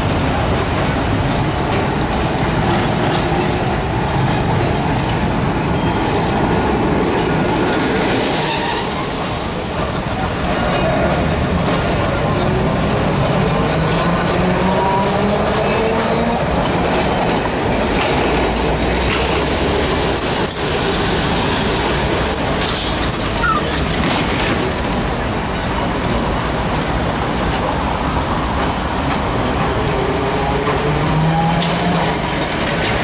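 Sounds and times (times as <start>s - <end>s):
city traffic noise: 0.0s - 33.0s
streetcar wheels on rail: 0.0s - 33.0s.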